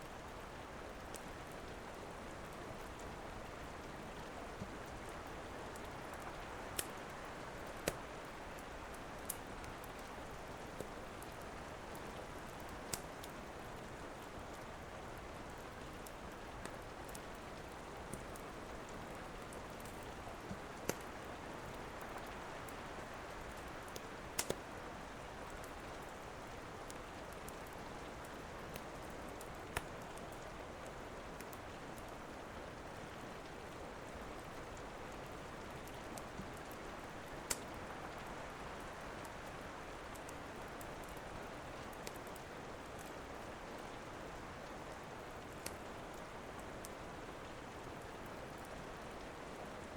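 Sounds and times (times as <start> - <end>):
rain falling: 0.0 - 49.9
wood fire crackling: 0.9 - 32.2, 32.8 - 49.8.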